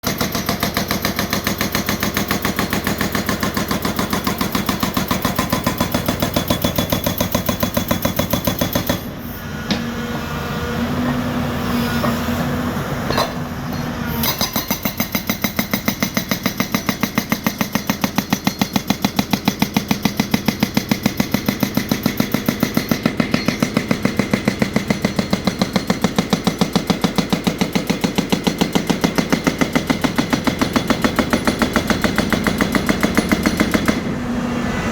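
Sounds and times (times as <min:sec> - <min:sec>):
hydraulic rock breaker hammering: 0:00.0 - 0:10.4, 0:11.0 - 0:34.2.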